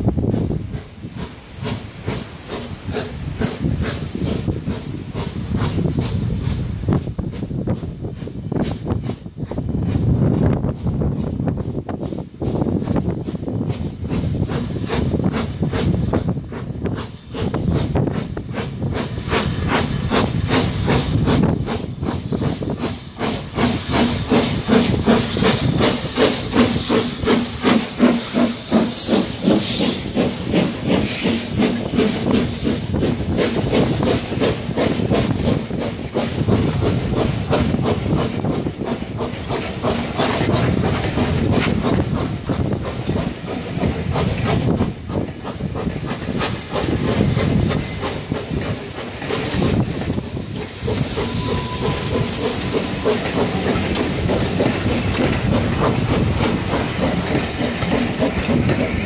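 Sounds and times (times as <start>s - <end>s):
hissing steam: 0.0s - 59.0s
steam locomotive exhaust beat: 0.0s - 59.0s
train wheels clattering on rails: 0.0s - 59.0s.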